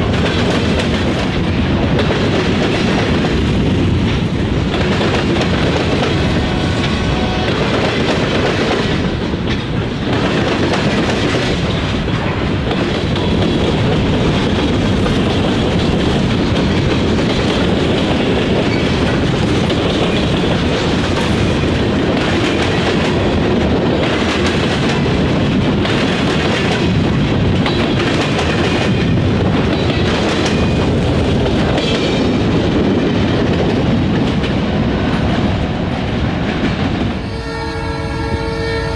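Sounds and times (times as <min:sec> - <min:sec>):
freight train wheels clattering: 0:00.0 - 0:37.4.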